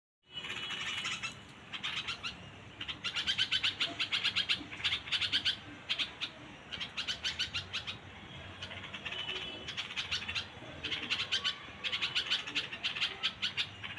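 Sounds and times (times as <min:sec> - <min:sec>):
small songbirds chirping: 0:00.3 - 0:13.9.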